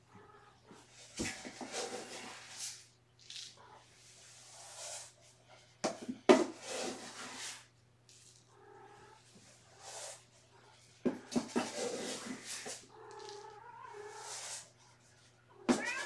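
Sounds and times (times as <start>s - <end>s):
rustling and scraping: 0.7s - 8.5s, 9.2s - 16.0s.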